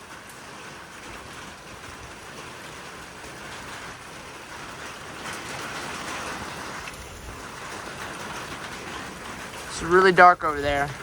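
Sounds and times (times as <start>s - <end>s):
wind-driven heavy rain: 0.0s - 11.0s.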